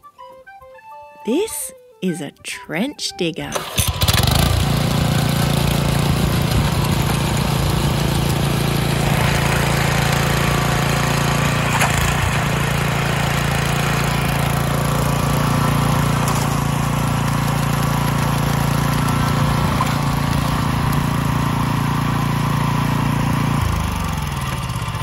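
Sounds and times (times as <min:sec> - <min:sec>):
trench digger engine running: 0:03.5 - 0:25.0.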